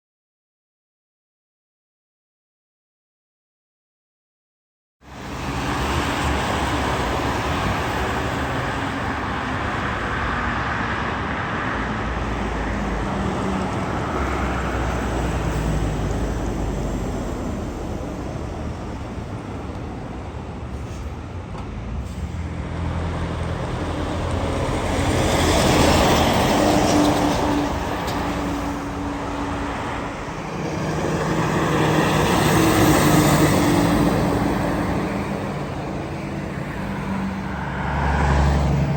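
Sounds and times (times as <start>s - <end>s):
trucks and cars passing: 5.0s - 38.9s.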